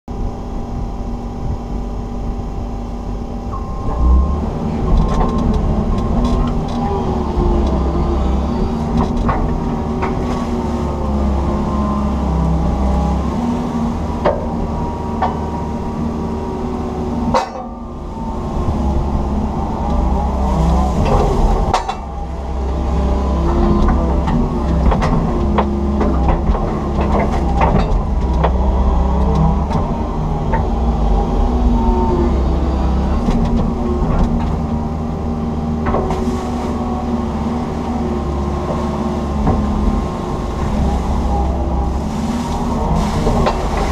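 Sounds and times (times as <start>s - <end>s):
diesel engine under load: 0.1s - 43.9s
hydraulic whining tones: 0.3s - 43.9s.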